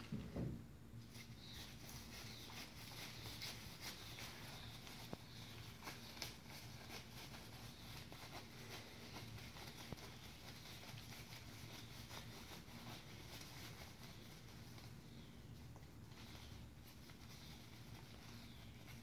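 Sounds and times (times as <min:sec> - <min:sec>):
low steady hum: 0:00.0 - 0:19.0
nylon fabric rustling: 0:01.1 - 0:19.0.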